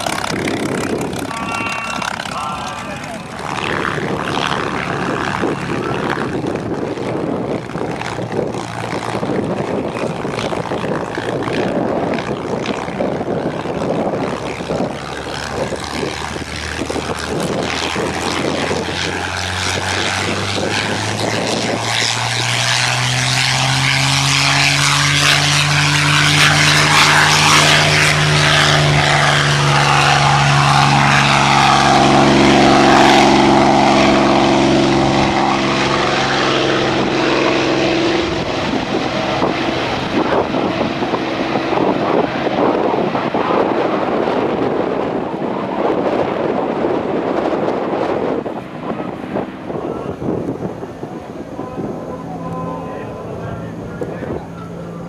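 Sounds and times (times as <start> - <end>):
aircraft piston engine running: 0.0 - 55.0.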